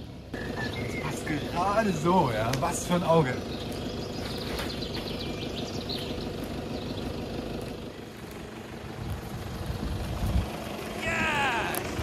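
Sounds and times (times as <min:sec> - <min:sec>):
birds chirping: 0:00.0 - 0:12.0
truck engine running: 0:00.0 - 0:12.0.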